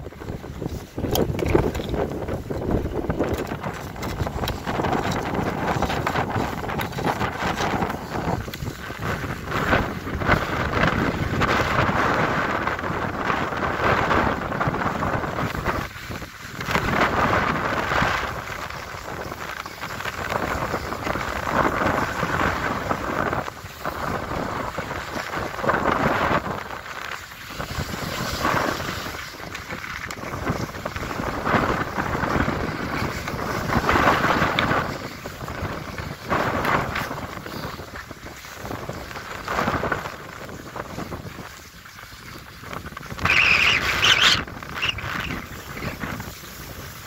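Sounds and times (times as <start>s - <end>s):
skis scraping over snow: 0.0s - 47.0s
wind on microphone: 0.0s - 47.0s.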